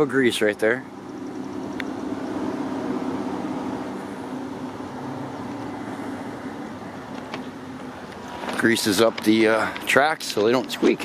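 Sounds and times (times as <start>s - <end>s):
distant engines humming: 0.0s - 11.0s.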